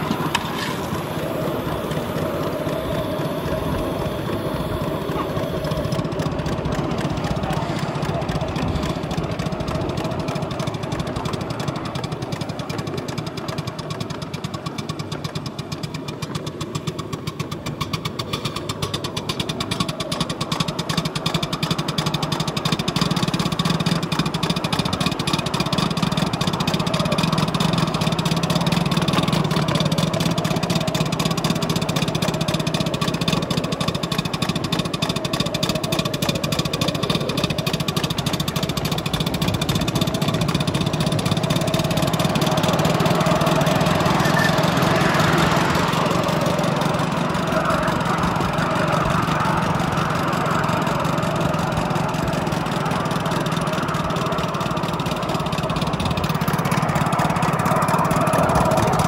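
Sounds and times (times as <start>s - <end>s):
steam locomotive exhaust beats: 0.0s - 59.0s
wheels on rails: 0.0s - 59.0s.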